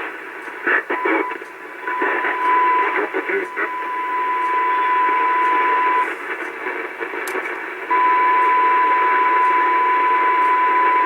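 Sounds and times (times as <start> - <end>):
radio band hiss: 0.0 - 11.0.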